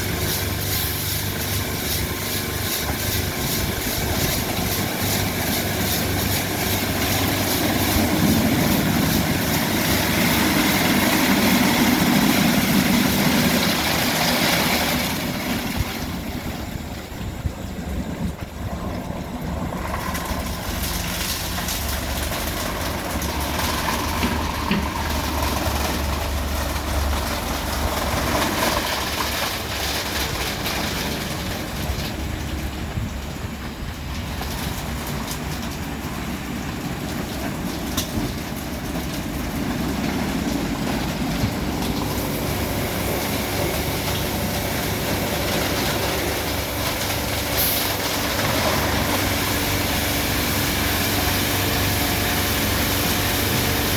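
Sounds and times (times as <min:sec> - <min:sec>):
car wash machine rushing: 0:00.0 - 0:53.9.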